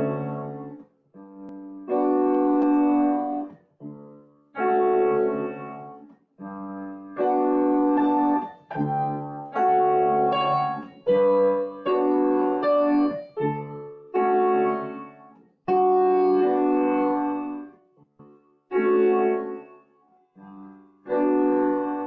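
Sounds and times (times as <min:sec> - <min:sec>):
upright piano chords: 0:00.0 - 0:22.0.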